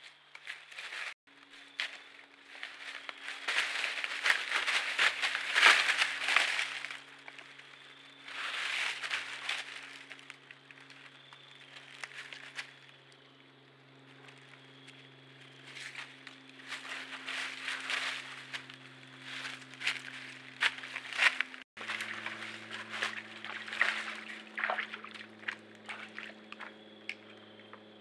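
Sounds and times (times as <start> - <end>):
deer scuffling in dry leaves: 0.5 - 13.0, 14.2 - 26.6
low electronic hum: 0.9 - 28.0.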